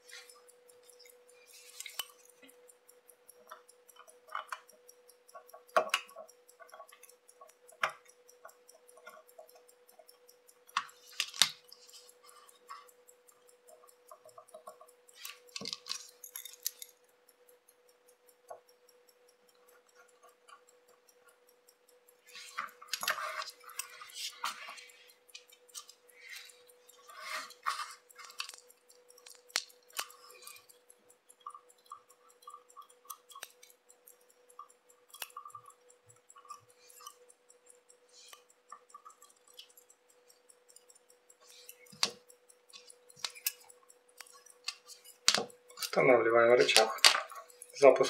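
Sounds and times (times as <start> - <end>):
small metal tools clicking: 0.0 - 48.0.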